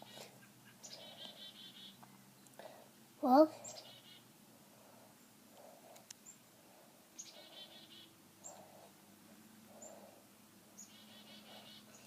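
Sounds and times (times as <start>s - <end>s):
songbird chirps: 0.0s - 4.5s, 5.1s - 12.0s.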